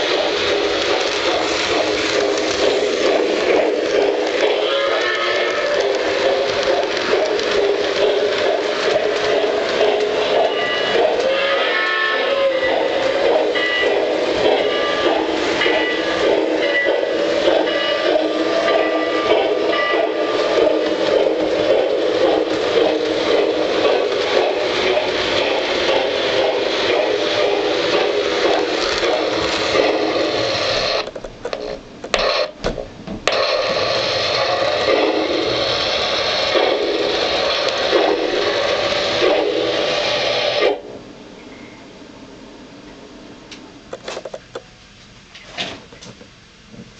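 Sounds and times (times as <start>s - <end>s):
model train wheels rolling on rail: 0.0s - 41.6s.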